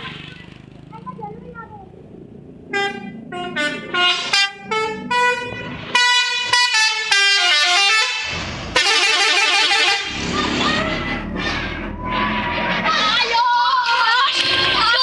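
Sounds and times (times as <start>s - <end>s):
musical bus air horns: 2.7s - 14.8s.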